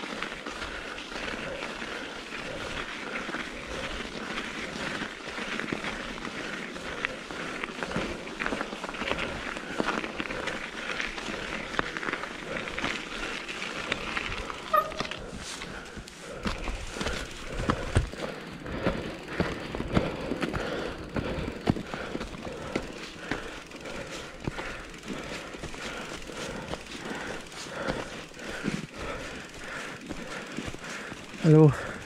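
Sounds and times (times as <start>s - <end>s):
tyres crunching snow: 0.0s - 32.0s
bike rattling clicks: 4.6s - 32.0s.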